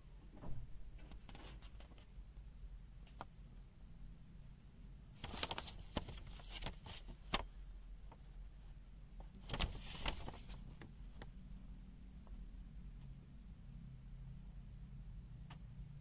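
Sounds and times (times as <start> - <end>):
low mains hum: 0.0 - 16.0.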